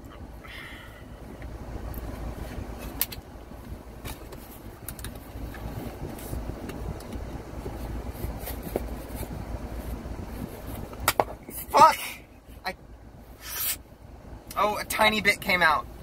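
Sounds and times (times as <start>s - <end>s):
low rumble inside a car: 0.0s - 16.0s.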